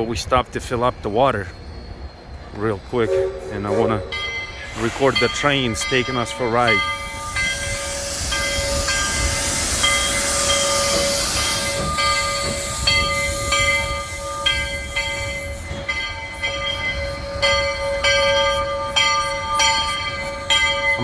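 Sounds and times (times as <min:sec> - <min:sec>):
steam locomotive hissing: 0:01.4 - 0:21.0
metallic ringing tones: 0:03.0 - 0:21.0.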